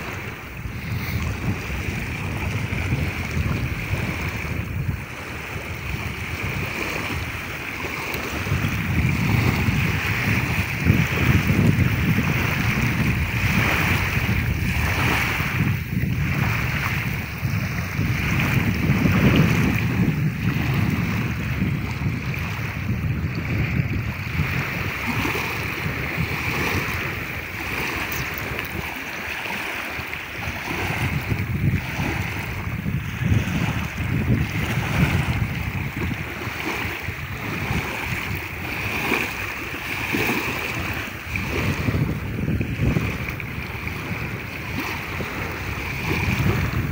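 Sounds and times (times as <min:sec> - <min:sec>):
waves lapping on stony shore: 0:00.0 - 0:46.9
wind rumble on microphone: 0:00.0 - 0:46.9.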